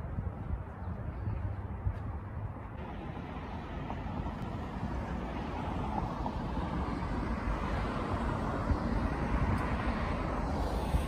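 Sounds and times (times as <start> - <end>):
traffic noise: 0.0 - 11.0
wind buffeting microphone: 0.0 - 11.0.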